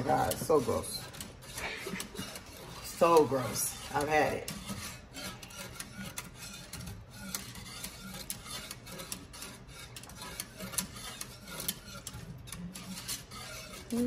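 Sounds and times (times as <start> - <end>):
whisk scraping and clicking in metal pot: 0.0 - 14.0.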